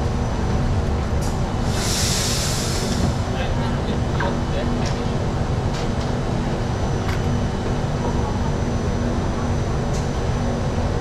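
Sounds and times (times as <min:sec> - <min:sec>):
train humming at platform: 0:00.0 - 0:11.0.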